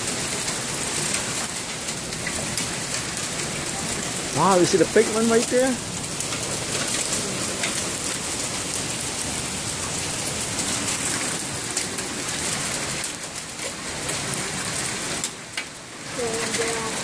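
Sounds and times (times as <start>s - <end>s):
hailstones ticking: 0.0s - 17.0s
heavy rain and hail hissing: 0.0s - 17.0s.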